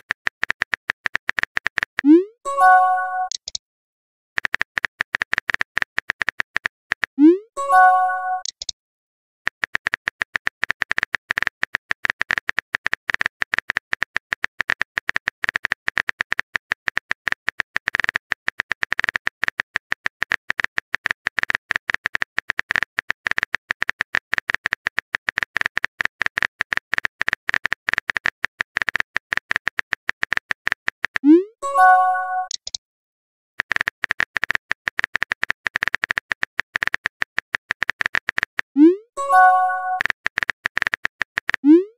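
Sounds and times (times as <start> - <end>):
phone keyboard typing clicks: 0.0 - 3.6, 4.4 - 8.7, 9.5 - 32.8, 33.6 - 41.8.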